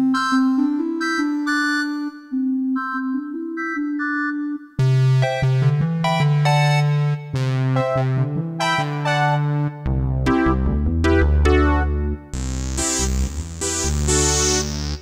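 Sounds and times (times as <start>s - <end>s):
electronic keyboard notes and chords: 0.0s - 15.0s.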